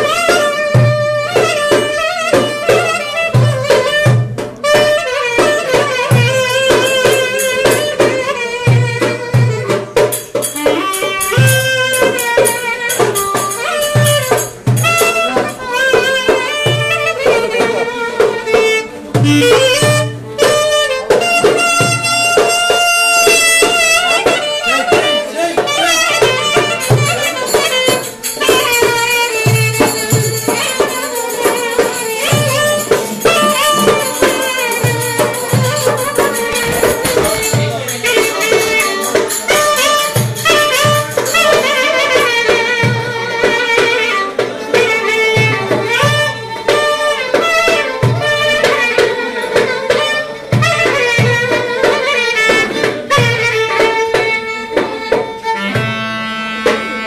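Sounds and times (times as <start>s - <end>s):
clarinet melody: 0.0s - 54.7s
goblet drum beats: 0.0s - 57.0s
violin melody: 0.0s - 57.0s.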